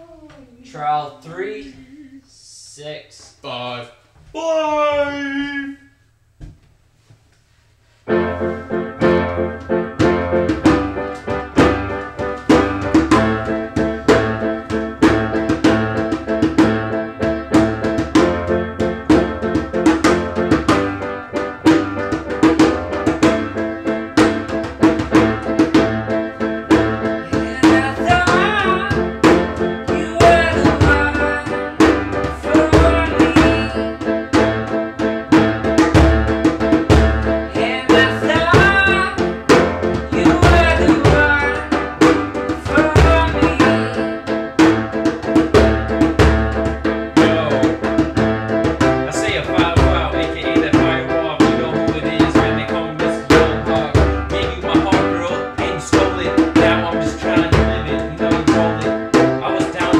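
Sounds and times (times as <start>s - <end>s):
song with steady drum beat: 8.2s - 59.9s.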